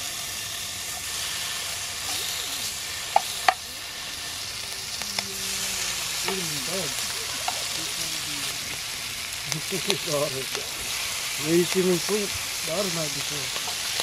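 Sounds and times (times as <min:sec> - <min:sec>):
bacon sizzling in a frying pan: 0:00.0 - 0:14.0.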